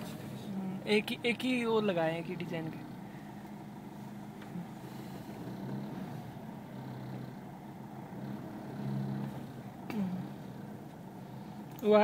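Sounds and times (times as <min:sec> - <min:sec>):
engine hum inside vehicle: 0:00.0 - 0:12.0.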